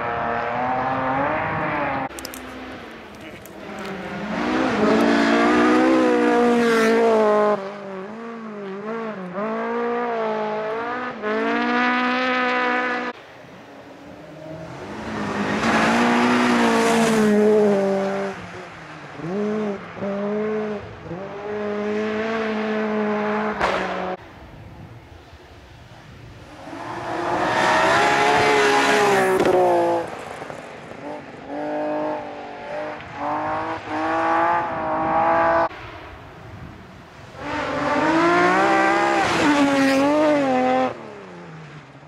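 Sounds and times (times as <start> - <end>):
rally car engines revving: 0.0 - 24.2, 26.4 - 36.3, 37.2 - 42.0.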